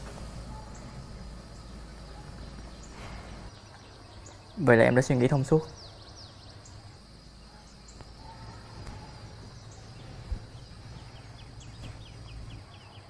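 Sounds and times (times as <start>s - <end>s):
faint bird chirps: 0.0s - 13.0s
high insect drone: 0.0s - 13.0s
low background hum: 0.0s - 13.0s.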